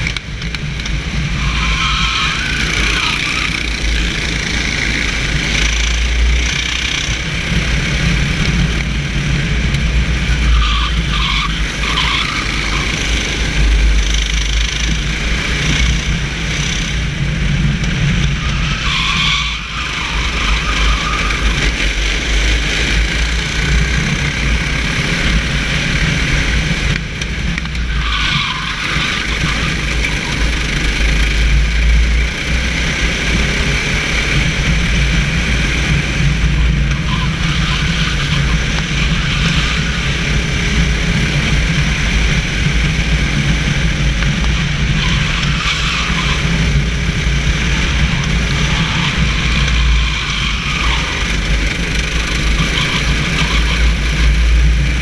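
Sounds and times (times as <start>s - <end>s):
kart engine running: 0.0s - 55.0s
tyres on wet track: 0.0s - 55.0s.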